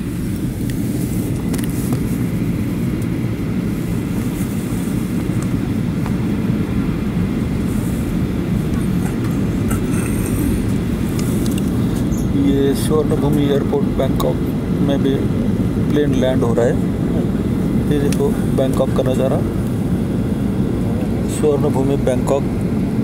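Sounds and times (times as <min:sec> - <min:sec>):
airplane cabin engine drone: 0:00.0 - 0:23.0.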